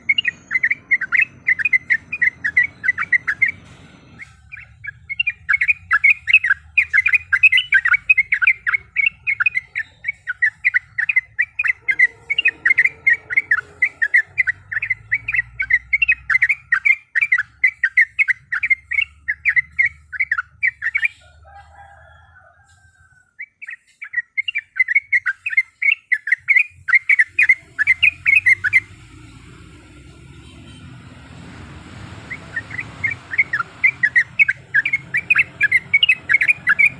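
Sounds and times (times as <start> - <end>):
bulbul rolling chatter: 0.0 - 21.6, 23.6 - 36.9.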